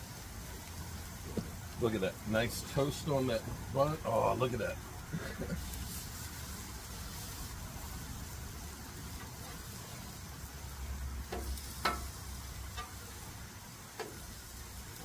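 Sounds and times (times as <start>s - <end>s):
food sizzling on a griddle: 0.0s - 15.0s.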